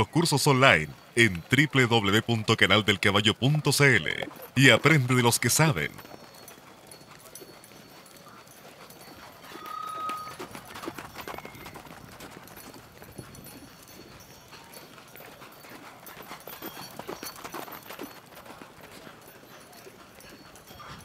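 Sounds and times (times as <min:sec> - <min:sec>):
horse hoofbeats: 0:00.0 - 0:21.0.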